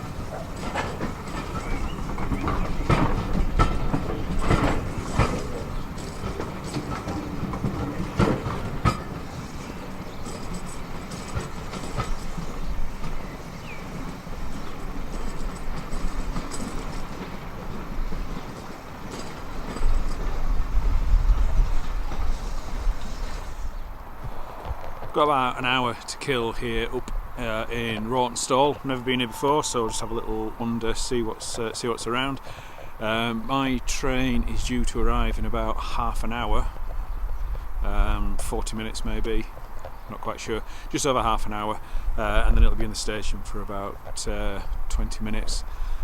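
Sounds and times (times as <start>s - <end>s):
train rumble: 0.0s - 46.0s
train wheels clicking over rail joints: 0.0s - 46.0s.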